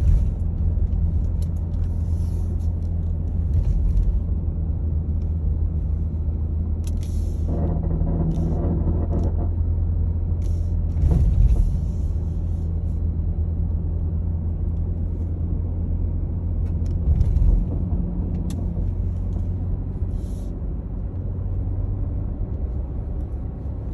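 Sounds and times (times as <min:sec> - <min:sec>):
car engine droning: 0:00.0 - 0:23.9
low engine rumbles: 0:00.0 - 0:23.9.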